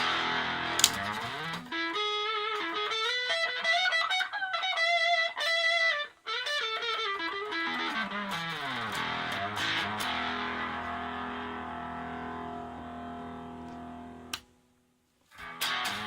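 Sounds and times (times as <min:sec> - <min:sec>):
distorted electric guitar: 0:00.0 - 0:04.1, 0:04.8 - 0:14.4, 0:15.3 - 0:16.0.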